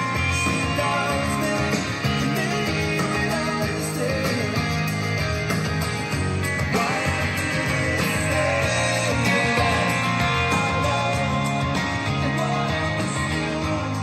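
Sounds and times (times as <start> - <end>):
rock song over speakers: 0.0 - 14.0.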